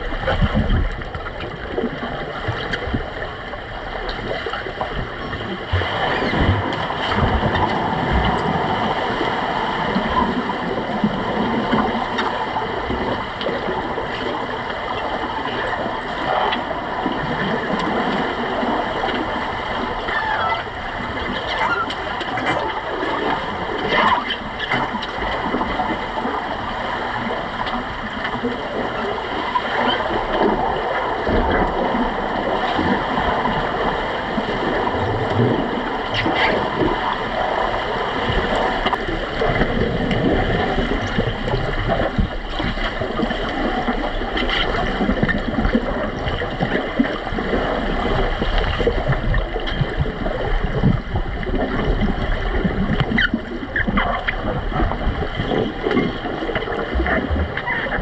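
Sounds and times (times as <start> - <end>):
underwater rushing and bubbling: 0.0 - 58.0.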